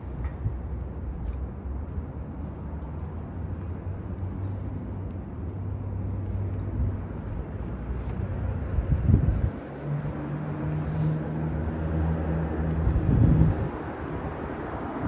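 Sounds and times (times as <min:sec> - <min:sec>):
car traffic rumble: 0:00.0 - 0:15.0
footsteps on sidewalk: 0:00.0 - 0:15.0.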